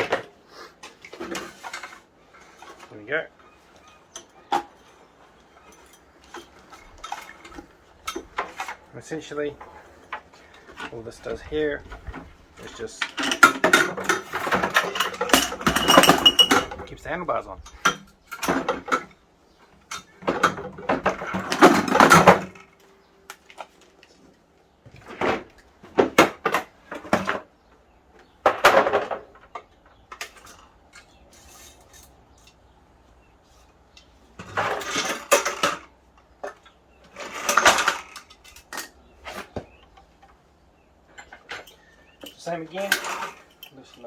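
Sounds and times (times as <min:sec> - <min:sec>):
metal parts and tools clanking: 0:00.0 - 0:24.0, 0:28.4 - 0:32.7, 0:33.5 - 0:44.0.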